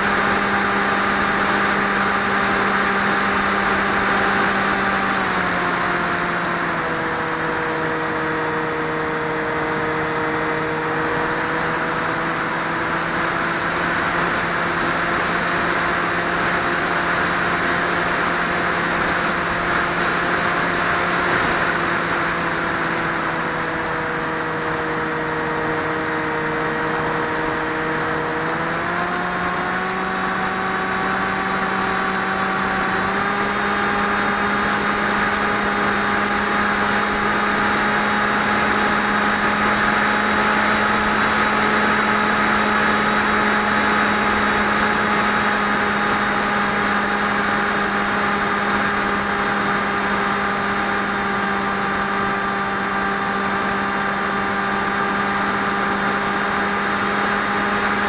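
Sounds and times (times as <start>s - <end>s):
electric motor and propeller hum: 0.0s - 58.0s.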